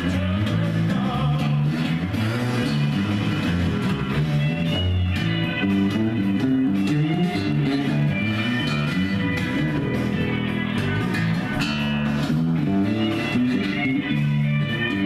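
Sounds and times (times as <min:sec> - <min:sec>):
blues-rock song: 0:00.0 - 0:15.0.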